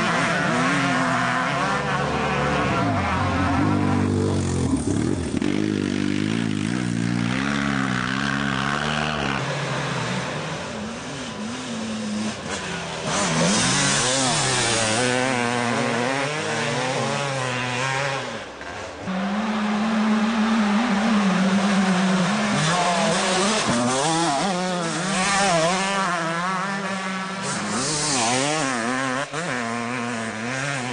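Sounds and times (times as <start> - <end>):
two-stroke motorcycle engine revving: 0.0 - 30.9.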